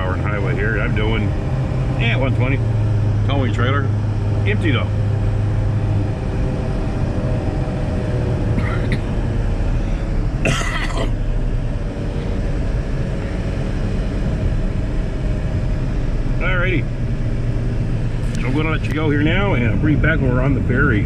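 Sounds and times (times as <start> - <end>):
engine and road rumble: 0.0 - 21.0.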